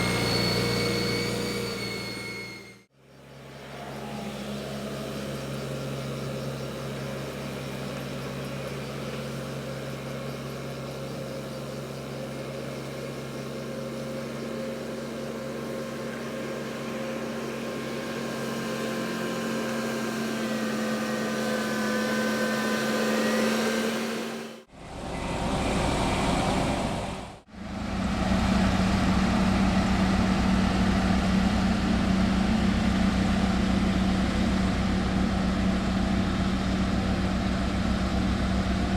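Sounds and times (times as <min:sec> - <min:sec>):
construction machinery engine running: 0:00.0 - 0:38.9.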